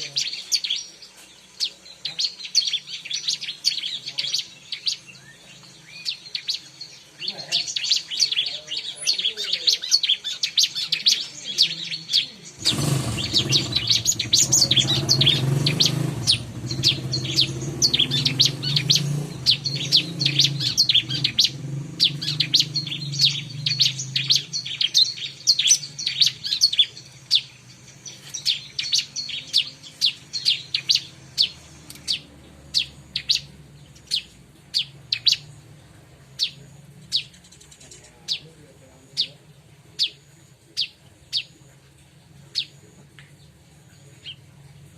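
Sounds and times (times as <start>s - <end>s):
bird chirping song: 0.0s - 44.9s.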